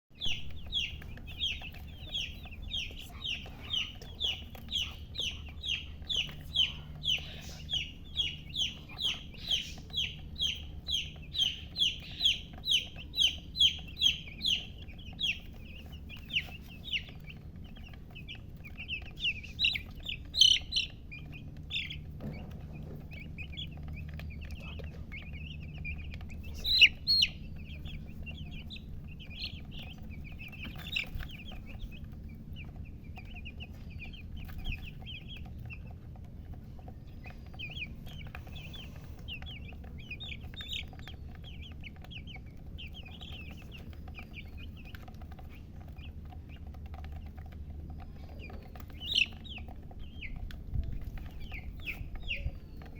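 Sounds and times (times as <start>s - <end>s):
baby chicks peeping: 0.1s - 52.9s.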